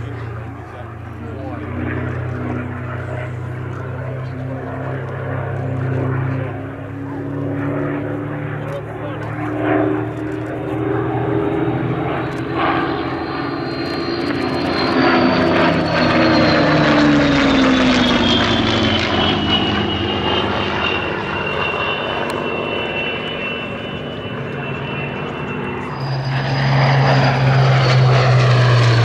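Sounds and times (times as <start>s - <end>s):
propeller plane engines droning: 0.0s - 29.0s.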